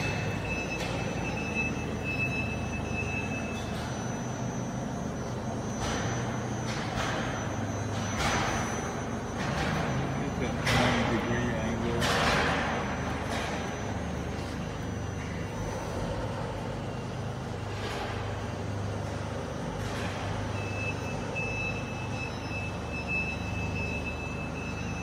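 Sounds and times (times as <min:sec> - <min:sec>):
cnc router humming: 0:00.0 - 0:20.3.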